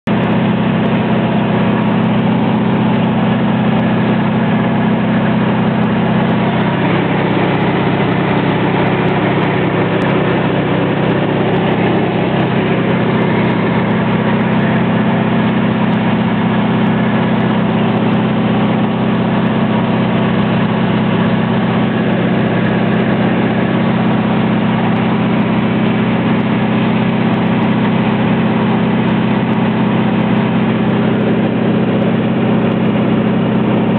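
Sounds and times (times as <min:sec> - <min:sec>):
light aircraft engine droning: 0:00.2 - 0:33.9.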